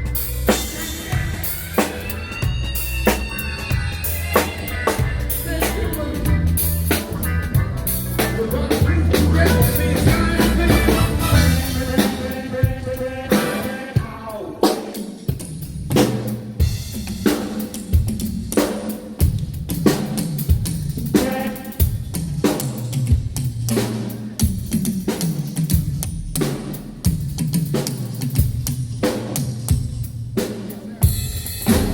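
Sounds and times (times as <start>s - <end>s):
drum beat: 0.0s - 31.9s
live band playing: 0.0s - 31.9s.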